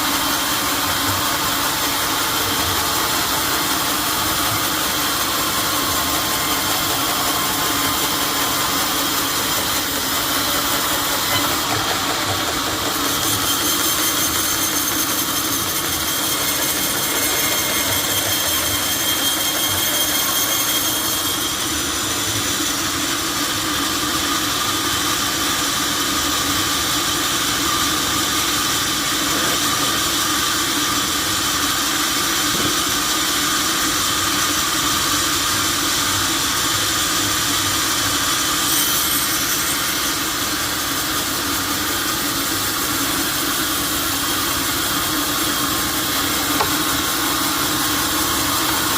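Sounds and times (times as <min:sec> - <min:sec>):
sawmill saw cutting log: 0:00.0 - 0:48.9.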